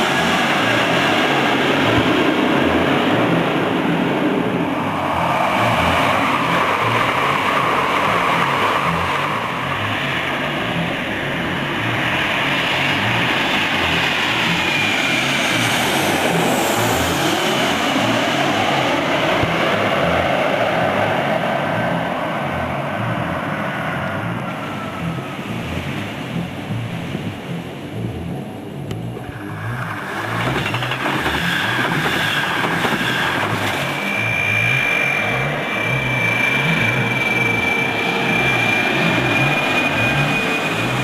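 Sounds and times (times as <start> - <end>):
jet airliners passing overhead: 0.0 - 26.7, 27.4 - 41.0.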